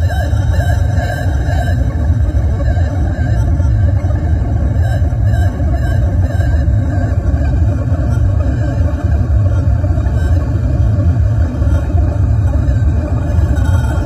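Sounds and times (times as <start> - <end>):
distorted noise music rumble: 0.0 - 14.0.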